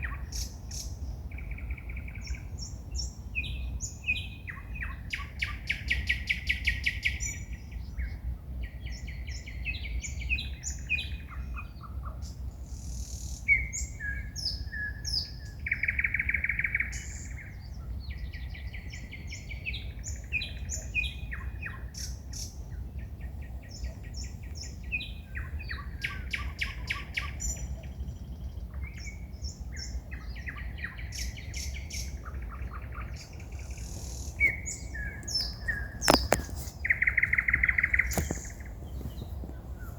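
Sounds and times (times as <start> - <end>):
low steady rumble: 0.0 - 39.9
songbirds singing: 0.0 - 39.9.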